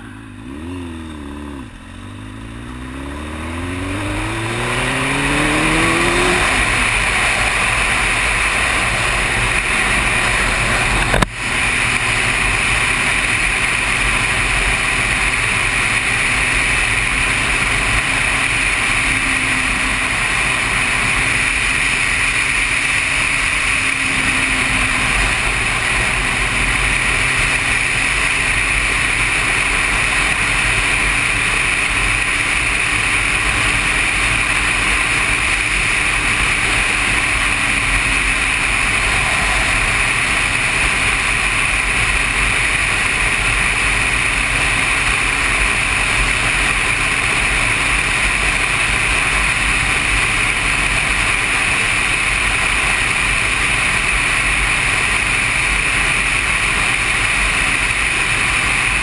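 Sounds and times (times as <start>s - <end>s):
motorcycle engine drone: 0.0s - 59.0s
rushing wind: 2.5s - 59.0s.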